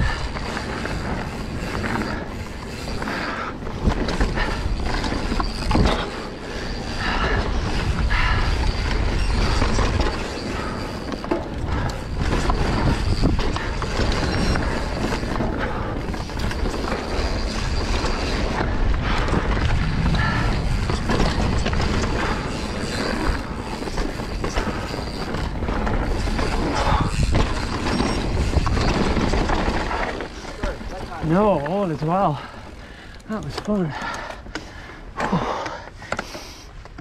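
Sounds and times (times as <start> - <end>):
bike tyres skidding on dirt: 0.0 - 33.0
bike rattling: 0.0 - 37.0.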